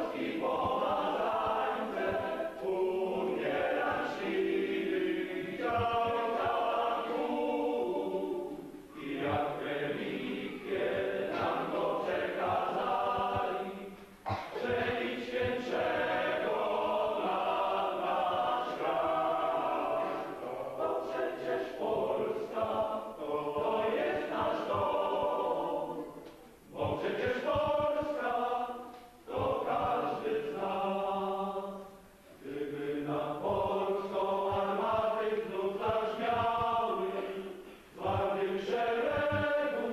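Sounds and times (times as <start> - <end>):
group singing a hymn: 0.0 - 39.9.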